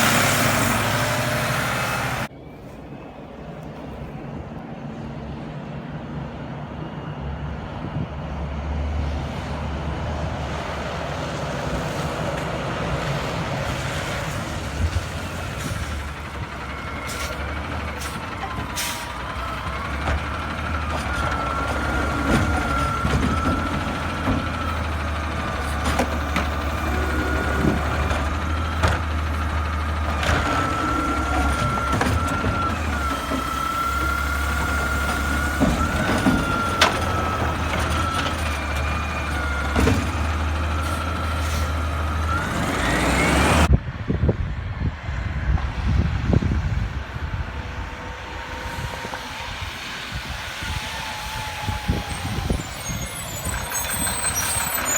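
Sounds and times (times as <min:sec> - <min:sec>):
garbage truck diesel engine: 0:00.0 - 0:54.9.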